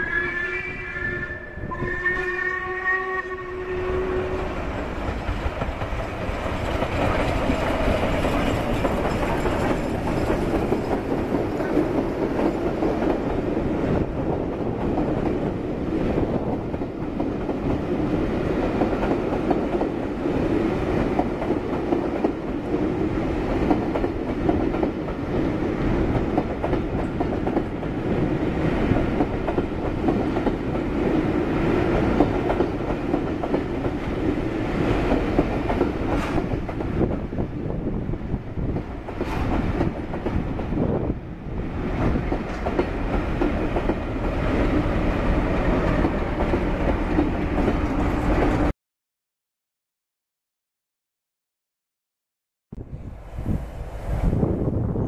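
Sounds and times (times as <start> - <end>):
steam train rumbling past: 0.0 - 48.7, 52.8 - 55.0.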